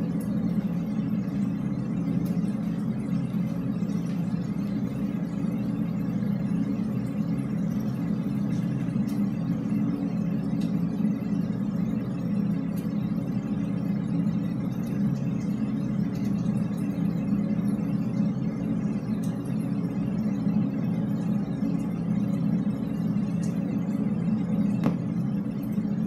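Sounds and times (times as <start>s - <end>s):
low drone in drainpipe: 0.0s - 26.0s.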